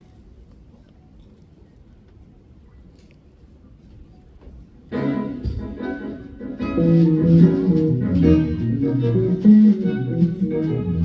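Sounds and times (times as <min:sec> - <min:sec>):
low rumble of concert audience: 0:00.0 - 0:11.0.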